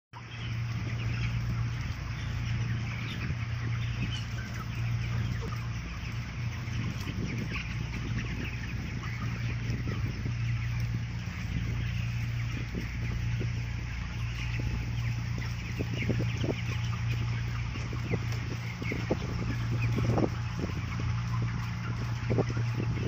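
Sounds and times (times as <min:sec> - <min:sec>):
chickens clucking: 0:00.2 - 0:23.0
low machine hum: 0:00.2 - 0:23.0.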